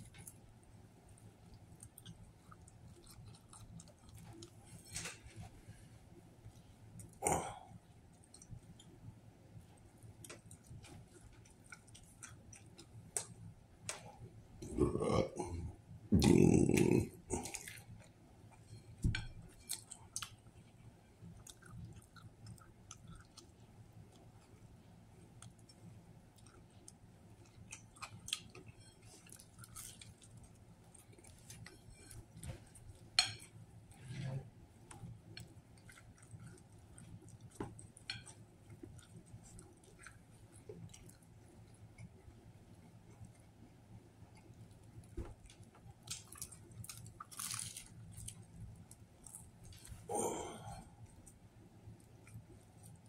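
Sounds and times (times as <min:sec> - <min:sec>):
low room hum: 0:00.0 - 0:53.0
man chewing with mouth smacks: 0:01.1 - 0:05.8, 0:06.5 - 0:09.0, 0:09.8 - 0:34.0, 0:34.8 - 0:53.0.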